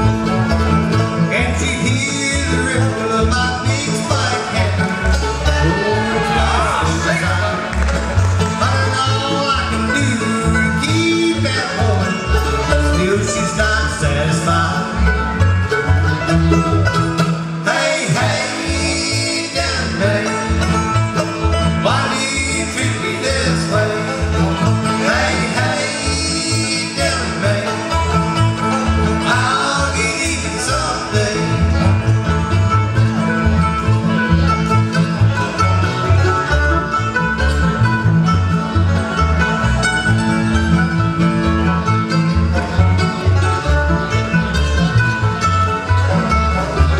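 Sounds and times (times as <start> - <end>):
bluegrass band playing: 0.0 - 46.9
upright bass plucking: 0.0 - 46.9.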